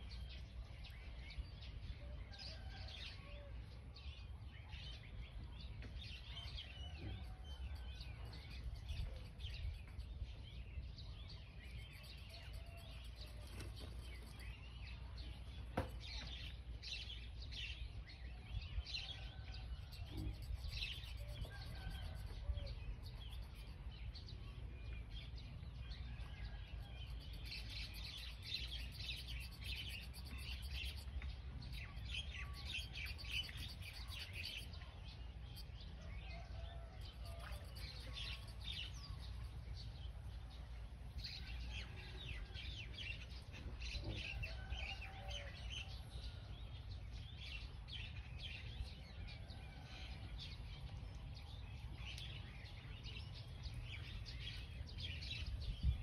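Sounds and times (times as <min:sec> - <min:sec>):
birds chirping: 0:04.9 - 0:56.0.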